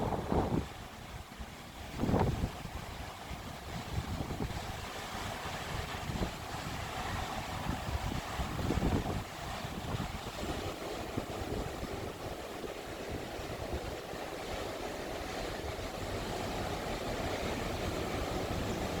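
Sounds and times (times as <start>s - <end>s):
ocean surf: 0.0s - 19.0s
wind buffeting microphone: 0.0s - 19.0s.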